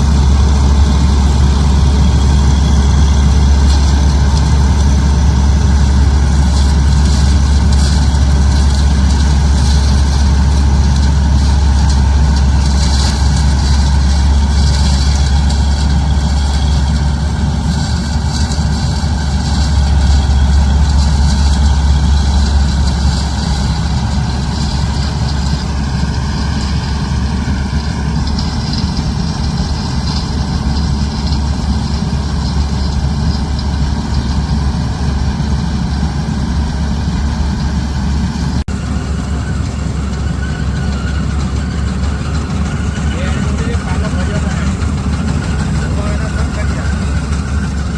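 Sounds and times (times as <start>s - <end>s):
farm diesel engine running: 0.0s - 47.9s.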